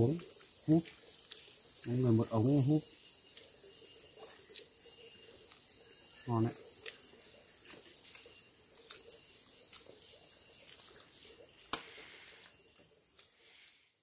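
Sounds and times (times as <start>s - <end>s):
insect chirping: 0.0s - 14.0s.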